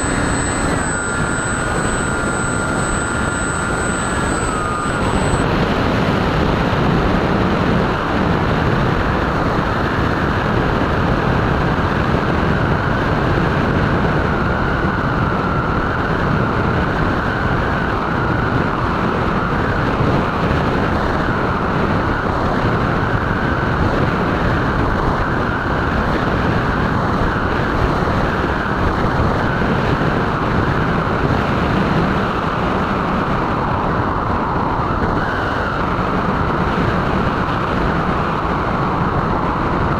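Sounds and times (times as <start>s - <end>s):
faint electric motor whine: 0.0s - 39.9s
propeller noise: 0.0s - 39.9s.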